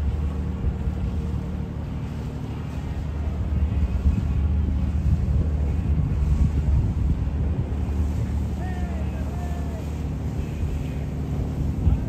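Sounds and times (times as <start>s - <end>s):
boat engine rumbling: 0.0s - 12.0s
wind noise on microphone: 0.0s - 12.0s.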